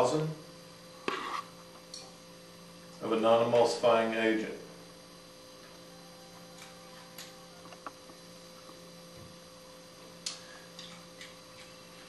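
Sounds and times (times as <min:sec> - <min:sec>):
steady mains hum: 0:00.0 - 0:12.0.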